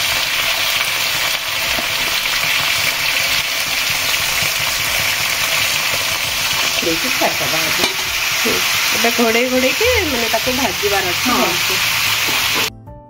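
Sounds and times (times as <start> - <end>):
vegetables sizzling in oil: 0.0 - 12.7.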